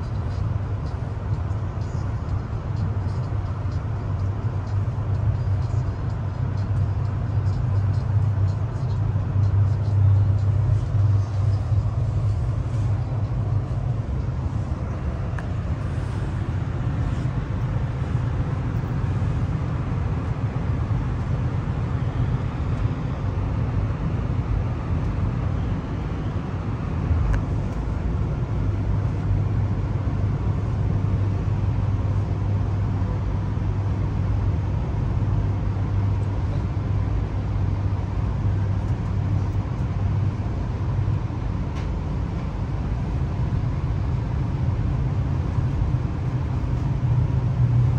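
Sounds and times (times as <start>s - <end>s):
train running drone: 0.0s - 47.9s
wheels rumbling on rail: 0.0s - 47.9s.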